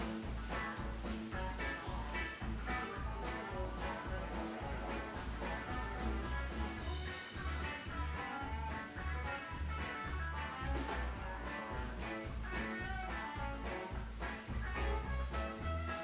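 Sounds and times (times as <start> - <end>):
upbeat swing tune with guitar: 0.0 - 16.0.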